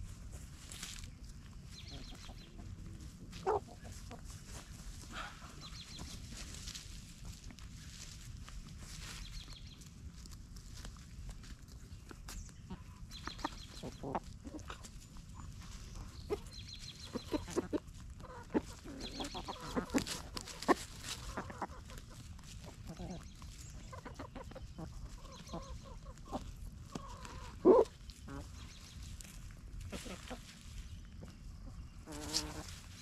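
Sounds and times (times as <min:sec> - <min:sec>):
chickens clucking: 0:00.0 - 0:33.0
rustling in leaf litter: 0:00.0 - 0:33.0.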